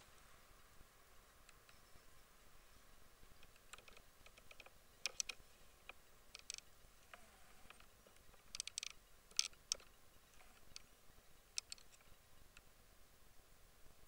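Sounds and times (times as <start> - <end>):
low hiss: 0.0 - 14.0.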